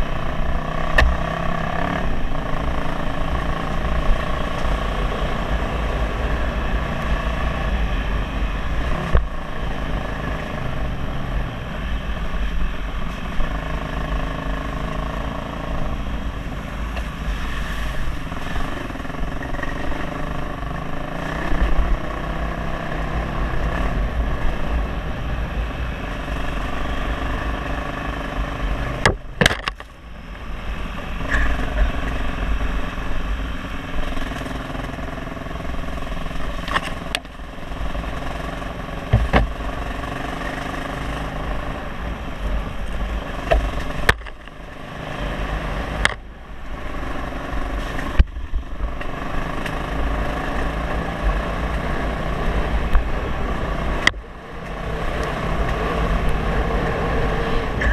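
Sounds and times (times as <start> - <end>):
motorcycle engine running: 0.0 - 57.9
wind rumbling on microphone: 0.0 - 57.9.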